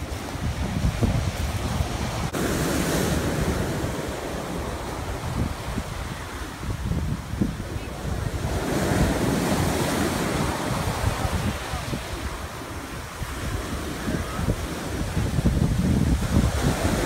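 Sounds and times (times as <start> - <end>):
ocean surf rushing: 0.0 - 17.0
wind buffeting microphone: 0.0 - 17.0.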